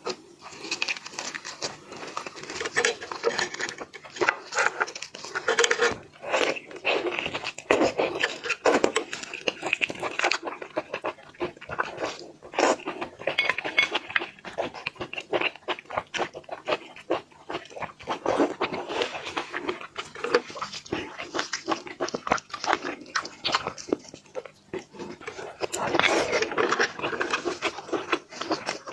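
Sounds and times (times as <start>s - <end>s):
person chewing: 0.0s - 28.9s.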